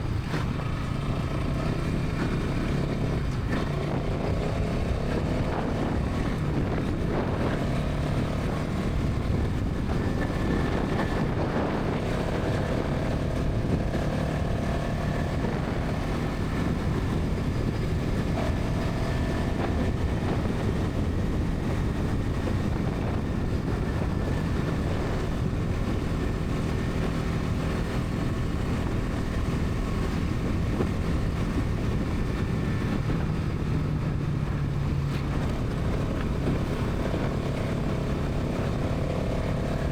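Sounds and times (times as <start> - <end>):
motorcycle engine cruising: 0.0 - 39.9
wind on microphone: 0.0 - 39.9.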